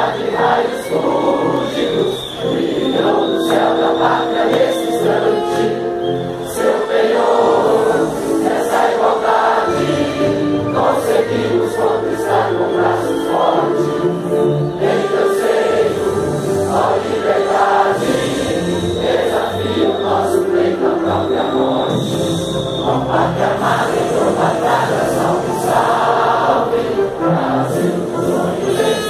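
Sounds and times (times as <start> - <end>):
crowd singing a hymn: 0.0 - 29.0.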